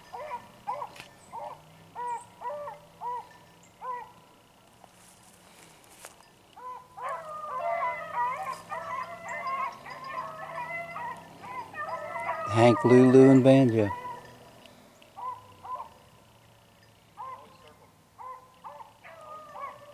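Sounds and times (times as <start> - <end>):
hounds baying: 0.0 - 4.6, 6.0 - 19.9.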